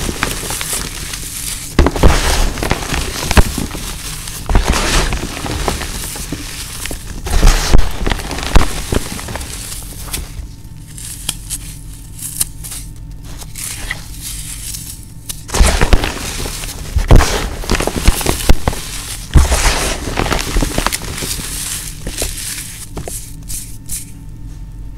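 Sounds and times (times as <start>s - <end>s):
floral foam crunching in hands: 0.0s - 24.2s.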